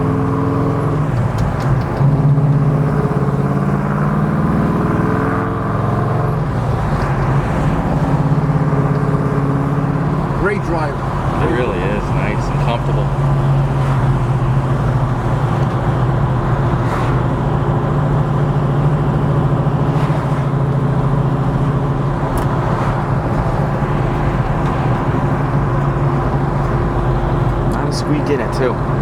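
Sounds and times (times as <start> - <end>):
car engine running low note: 0.0 - 29.0.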